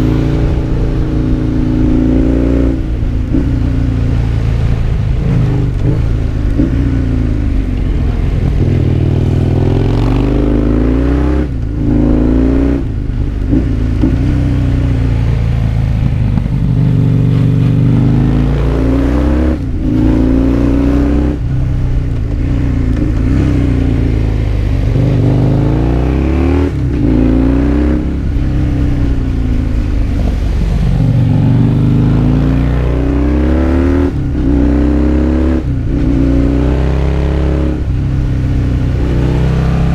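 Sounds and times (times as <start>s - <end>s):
motorcycle engine revving: 0.0s - 39.9s
wind and road rumble: 0.0s - 39.9s.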